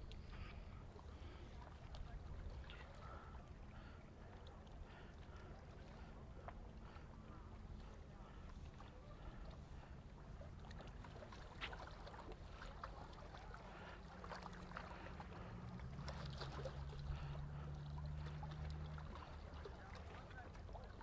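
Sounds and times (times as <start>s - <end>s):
lake water lapping: 0.0s - 21.0s
low motor hum: 0.0s - 21.0s
small splashes and clicks: 0.0s - 21.0s.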